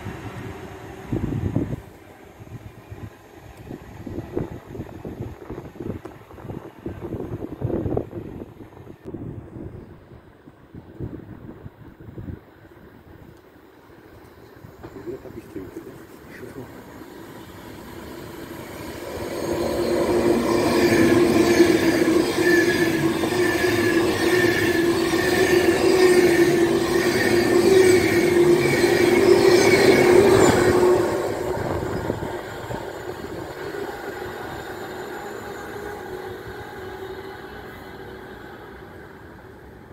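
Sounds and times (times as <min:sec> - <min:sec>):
train passing at speed: 0:00.0 - 0:39.9.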